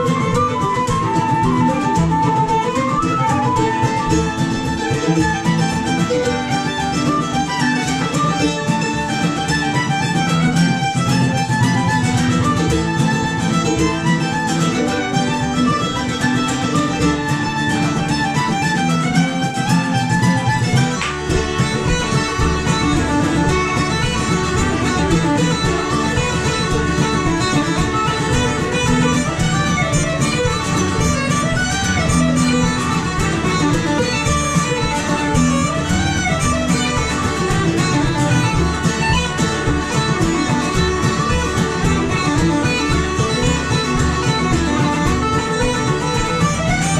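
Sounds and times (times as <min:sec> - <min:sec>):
low accompaniment: 0:00.0 - 0:46.9
string band playing folk tune: 0:00.0 - 0:46.9.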